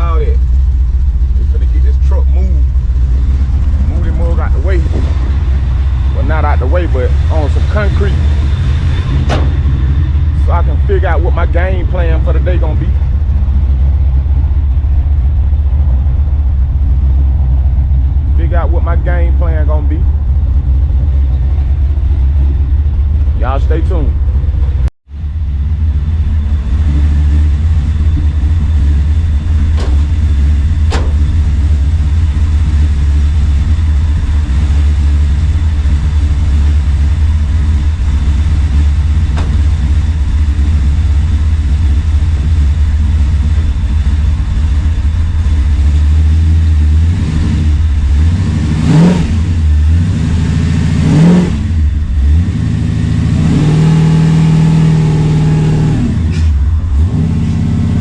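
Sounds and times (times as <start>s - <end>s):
pickup engine idling and revving: 0.0s - 58.0s.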